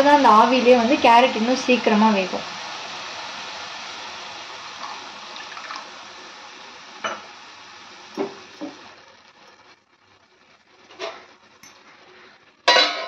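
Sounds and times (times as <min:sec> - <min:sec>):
carrots sizzling in a pan: 0:00.0 - 0:13.0.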